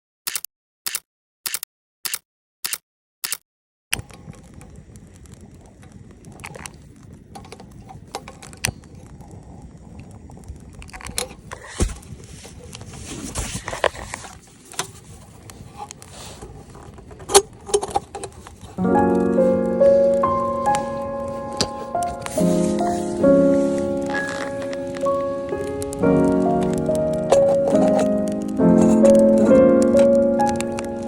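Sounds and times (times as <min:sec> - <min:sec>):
campfire crackling and popping: 0:04.0 - 0:13.0, 0:13.6 - 0:31.0.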